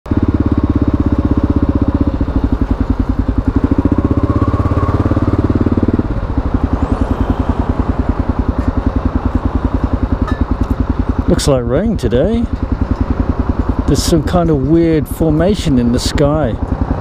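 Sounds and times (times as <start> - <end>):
motorcycle engine at low revs: 0.1 - 17.0.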